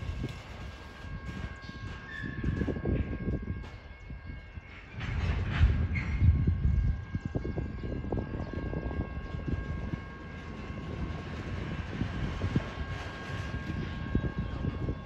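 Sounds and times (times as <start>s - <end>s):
faint steady whine: 0.0s - 15.0s
train rumbling past: 0.0s - 15.0s.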